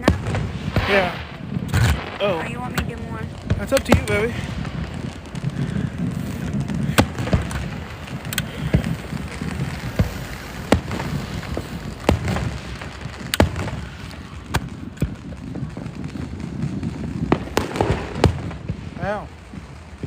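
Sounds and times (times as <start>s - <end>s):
fireworks popping: 0.0s - 20.0s.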